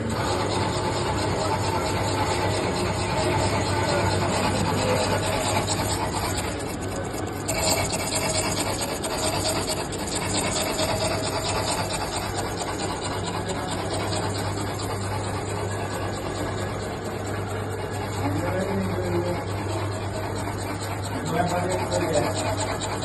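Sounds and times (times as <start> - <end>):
milling machine grinding: 0.0 - 23.0.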